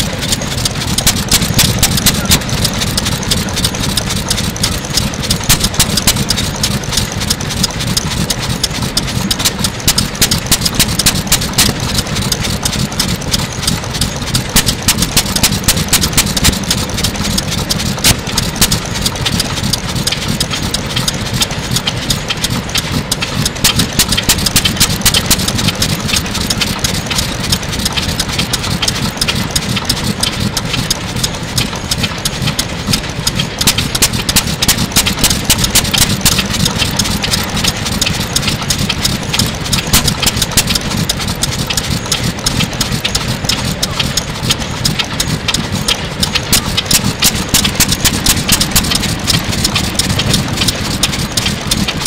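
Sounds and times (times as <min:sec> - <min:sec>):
single-cylinder engine running: 0:00.0 - 0:52.0.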